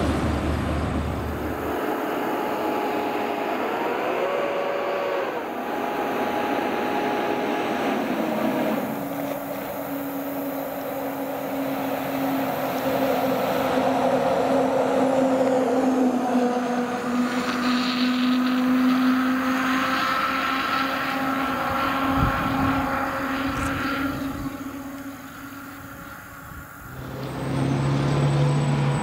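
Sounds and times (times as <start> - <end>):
engine and road noise: 0.0 - 29.0
fire truck siren: 0.0 - 29.0
low horn tone: 0.9 - 29.0.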